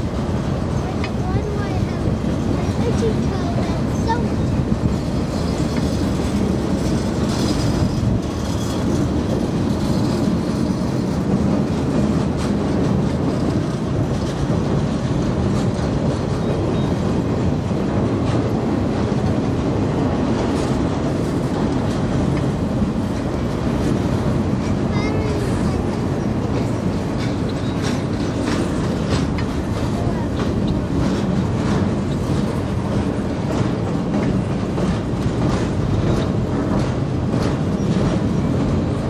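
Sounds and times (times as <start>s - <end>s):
freight train rumbling past: 0.0s - 39.0s.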